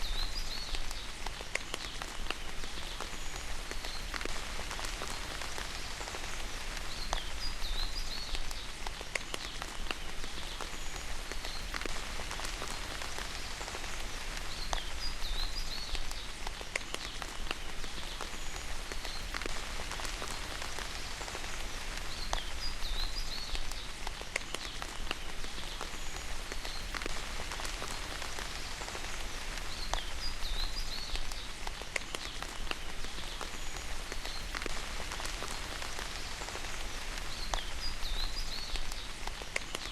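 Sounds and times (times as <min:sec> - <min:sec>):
rain falling: 0:00.0 - 0:39.9
raindrops clicking on a surface: 0:00.0 - 0:39.9.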